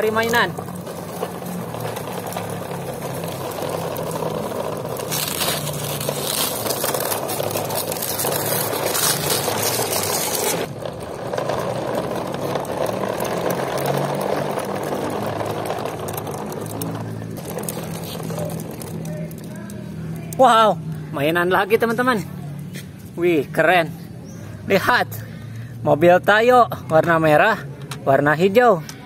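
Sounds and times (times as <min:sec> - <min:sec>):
toy truck wheels on concrete: 0:00.0 - 0:29.0.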